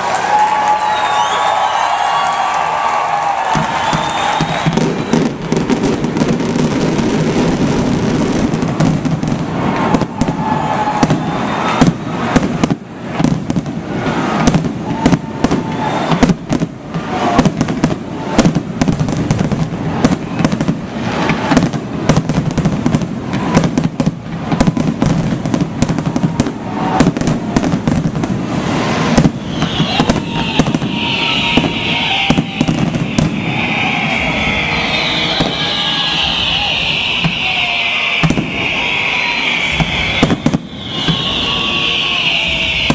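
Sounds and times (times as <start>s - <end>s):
fireworks shells bursting: 0.8s - 42.9s.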